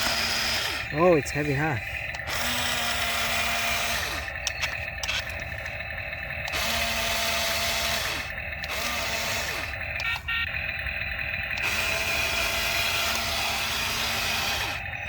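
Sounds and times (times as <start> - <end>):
toy excavator motors whirring: 0.0 - 15.0.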